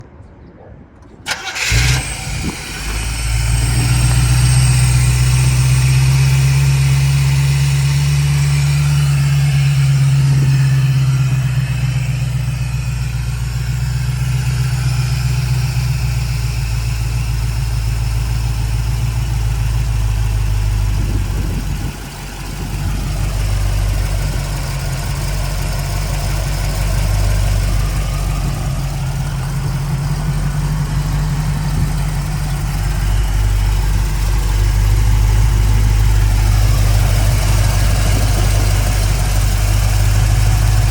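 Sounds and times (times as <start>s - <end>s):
car engine idling: 1.1s - 40.9s.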